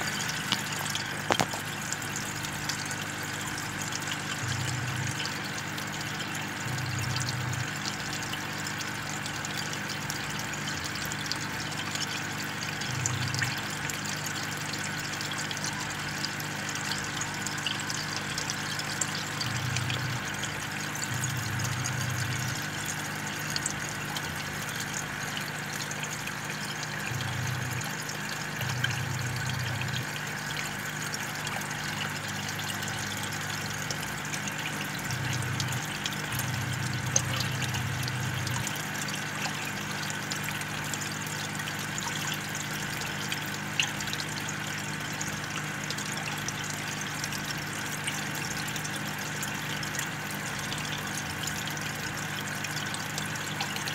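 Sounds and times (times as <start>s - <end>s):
air stone bubbling underwater: 0.0s - 53.9s.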